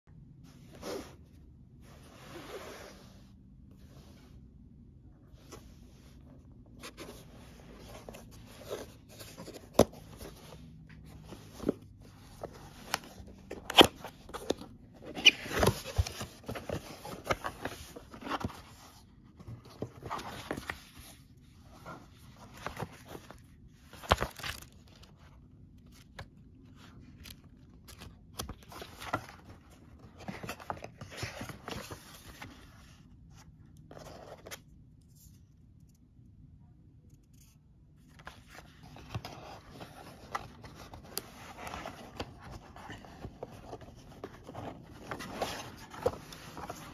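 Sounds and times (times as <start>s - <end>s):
cardboard and paper rustling: 5.5s - 34.6s, 38.1s - 46.9s.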